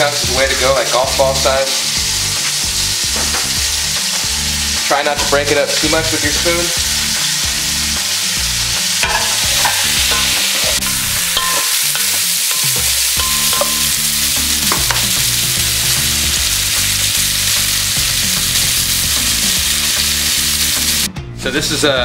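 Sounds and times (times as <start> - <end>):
meat sizzling in fat: 0.0 - 21.1.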